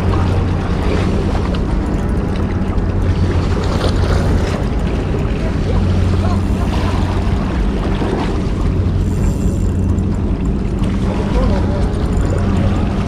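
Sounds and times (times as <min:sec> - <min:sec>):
steady low hum: 0:00.0 - 0:13.0
waves against rocks: 0:00.0 - 0:13.0.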